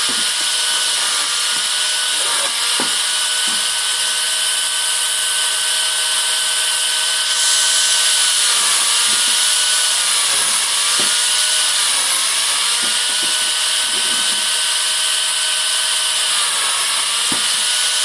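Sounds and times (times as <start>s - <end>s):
chainsaw cutting branches: 0.0s - 18.0s.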